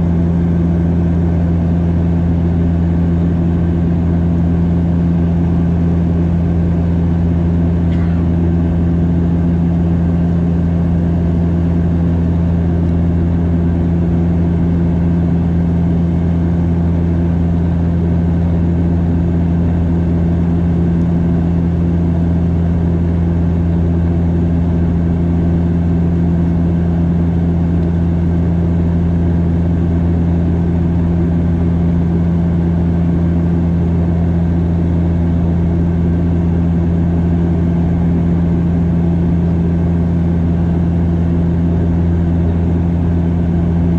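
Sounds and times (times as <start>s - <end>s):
airplane cabin engine drone: 0.0s - 43.9s.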